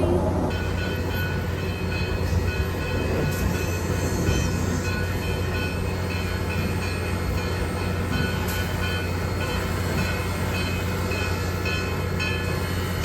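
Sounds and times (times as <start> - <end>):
train running on track: 0.0 - 13.0.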